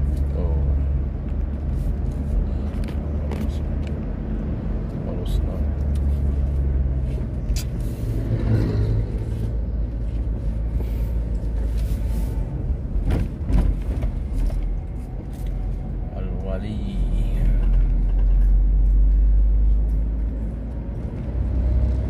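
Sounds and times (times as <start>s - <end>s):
vehicle engine and tyre noise: 0.0s - 22.0s.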